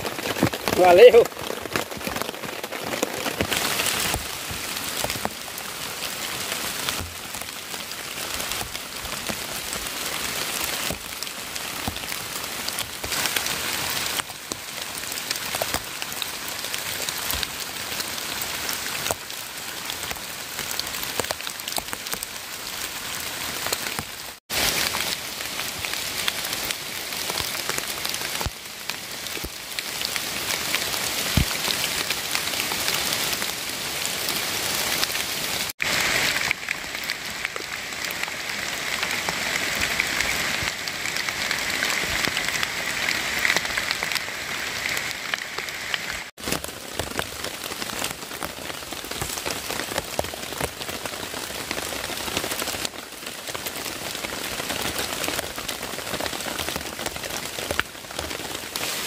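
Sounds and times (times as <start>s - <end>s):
rain falling on foliage: 0.0s - 59.0s.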